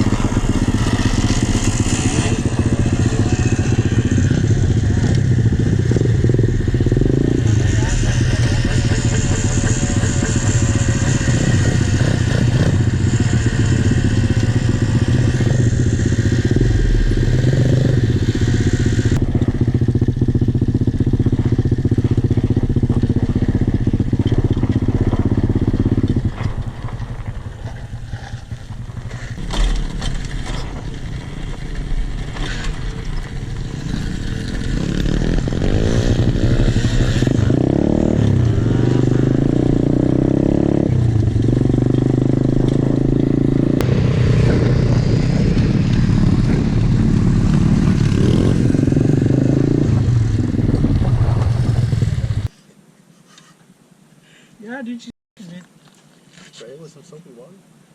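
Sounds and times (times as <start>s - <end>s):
pit bike engine revving: 0.0s - 52.5s.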